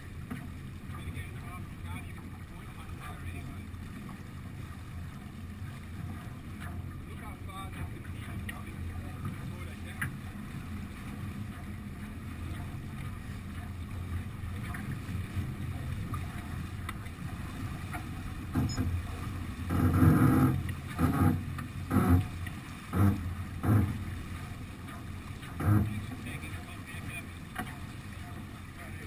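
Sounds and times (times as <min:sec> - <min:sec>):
wind and water rushing: 0:00.0 - 0:29.0.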